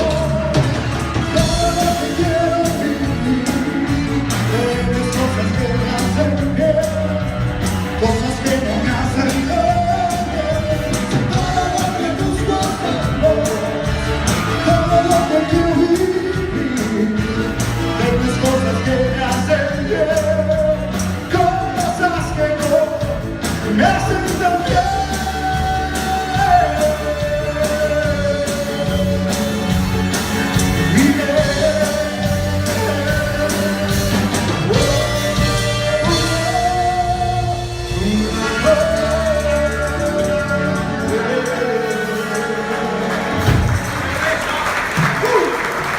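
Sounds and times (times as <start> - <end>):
person singing: 0.0 - 43.9
live cumbia band playing: 0.0 - 45.9.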